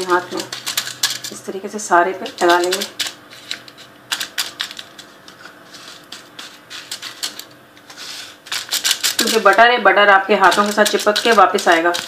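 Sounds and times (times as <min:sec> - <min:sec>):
crumbs crackling on foil: 0:00.0 - 0:01.5, 0:02.2 - 0:12.0.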